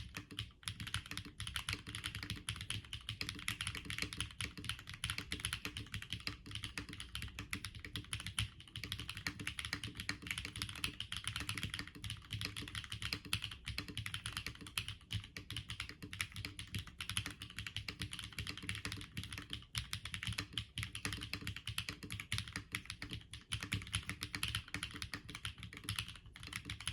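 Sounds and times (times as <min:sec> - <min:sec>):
fast mechanical keyboard typing: 0:00.0 - 0:26.9.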